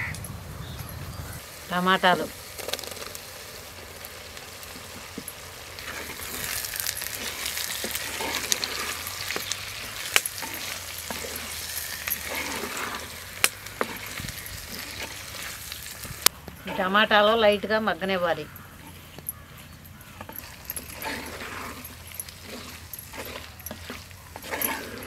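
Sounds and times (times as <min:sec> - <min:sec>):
tomatoes sizzling in hot oil: 0:00.6 - 0:16.8, 0:20.4 - 0:25.0.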